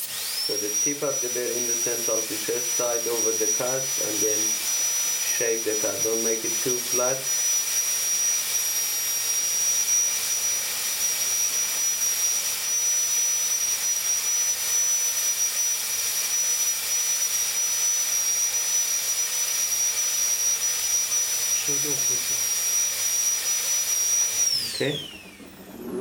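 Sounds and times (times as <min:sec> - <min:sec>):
dental drill whine: 0:00.0 - 0:26.0.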